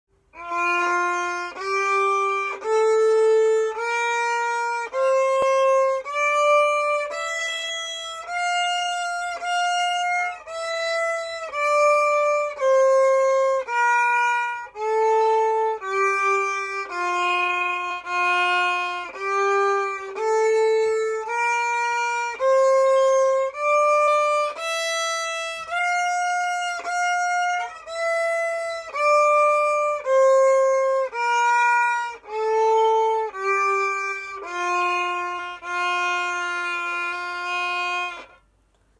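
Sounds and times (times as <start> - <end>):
violin playing a scale: 0.2 - 38.5.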